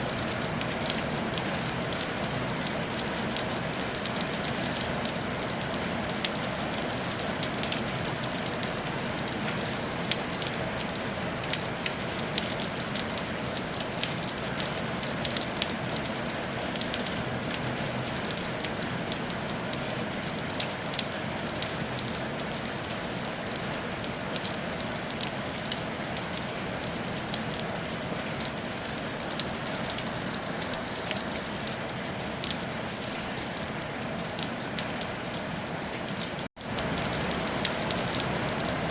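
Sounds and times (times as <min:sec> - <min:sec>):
rain on a tile roof: 0:00.0 - 0:38.9.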